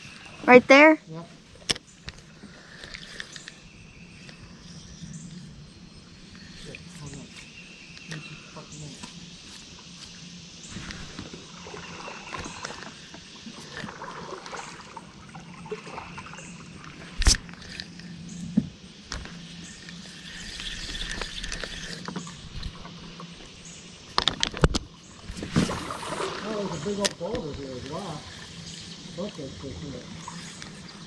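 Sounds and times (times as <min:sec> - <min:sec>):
faint steady hum: 0:00.0 - 0:31.0
water lapping kayak: 0:00.0 - 0:31.0.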